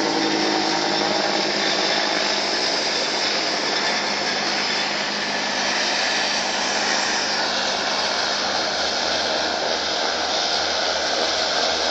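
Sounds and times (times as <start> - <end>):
turbine engines hissing: 0.0 - 11.9.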